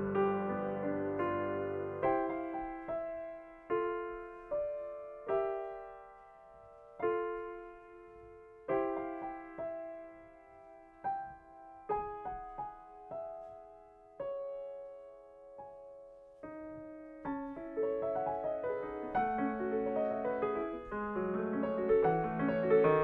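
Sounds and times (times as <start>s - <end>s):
soft grand piano: 0.0s - 23.0s.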